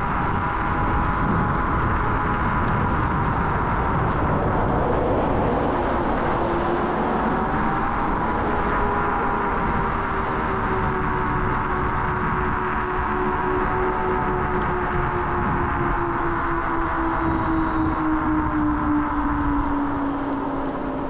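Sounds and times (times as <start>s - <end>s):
faint steady whine: 0.0s - 21.0s
scooter road noise: 0.0s - 21.0s
wind on microphone: 0.0s - 21.0s.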